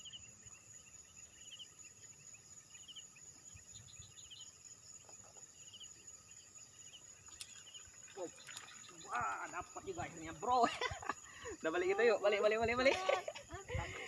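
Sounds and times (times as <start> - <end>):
insect high-pitched drone: 0.0 - 13.8
insect chirping trills: 0.0 - 14.0.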